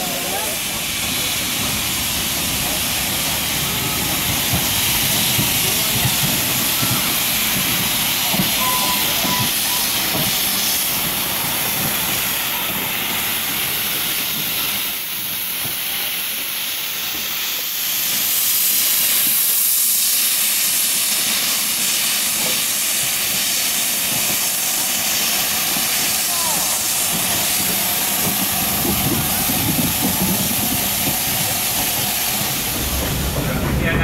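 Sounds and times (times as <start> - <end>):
steam locomotive hissing steam: 0.0 - 34.0.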